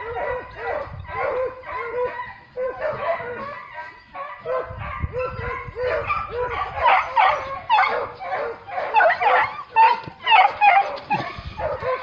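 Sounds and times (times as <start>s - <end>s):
dogs yelping: 0.0s - 12.0s.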